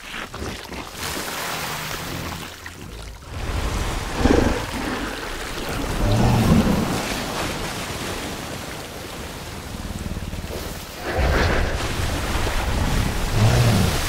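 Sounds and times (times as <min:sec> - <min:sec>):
water splashing noise: 0:00.0 - 0:14.0.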